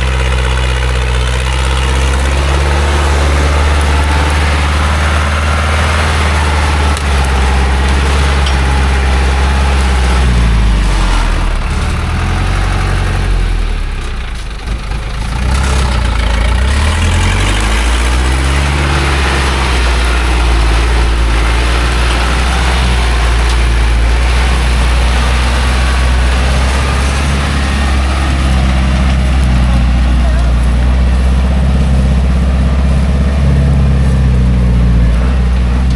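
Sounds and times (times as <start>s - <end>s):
truck engine labouring: 0.0s - 35.9s.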